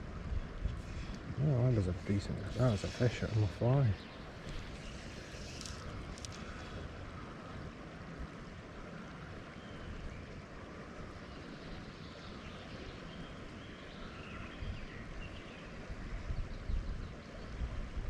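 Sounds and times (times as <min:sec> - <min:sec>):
river water flowing: 0:00.0 - 0:17.9.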